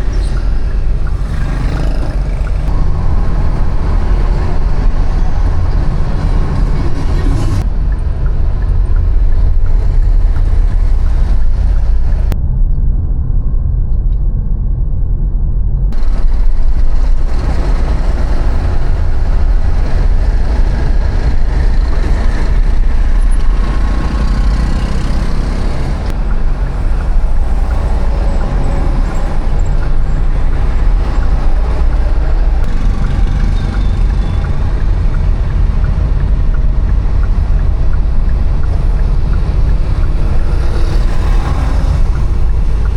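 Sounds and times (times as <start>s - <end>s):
vehicles passing: 0.0s - 12.4s, 15.9s - 42.9s
heavy low rumble: 0.0s - 42.9s.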